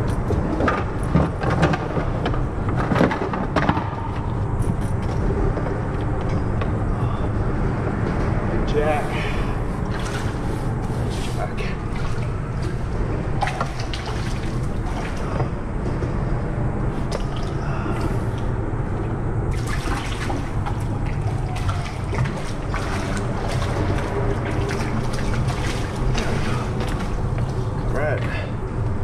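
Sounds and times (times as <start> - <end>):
water lapping against hull: 0.0 - 29.0.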